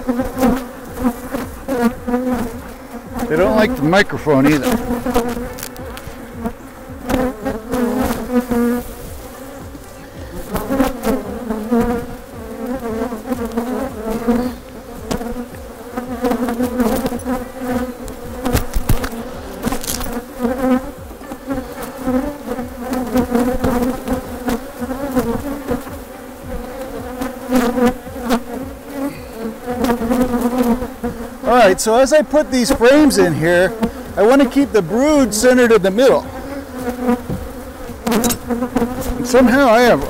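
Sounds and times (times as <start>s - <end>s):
bees buzzing loudly: 0.0s - 40.0s.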